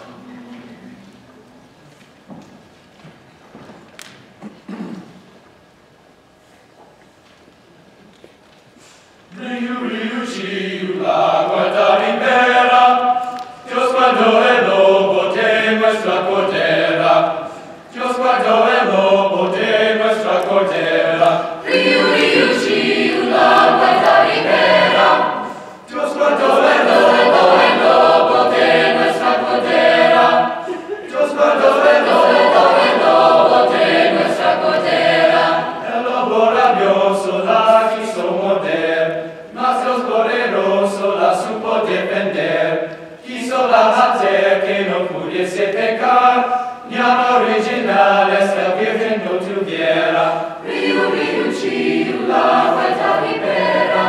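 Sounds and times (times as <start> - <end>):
mixed choir singing a cappella: 9.3 - 54.0.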